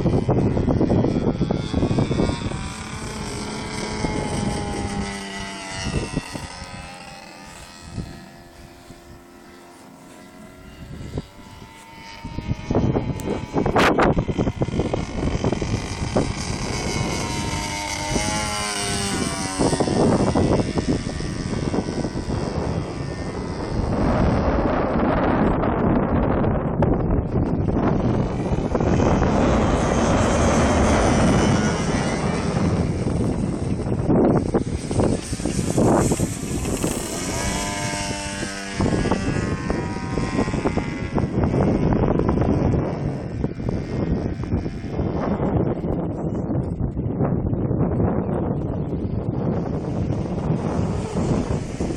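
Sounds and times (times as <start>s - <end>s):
model plane propeller drone: 0.0s - 51.9s
wind buffeting microphone: 0.0s - 51.9s.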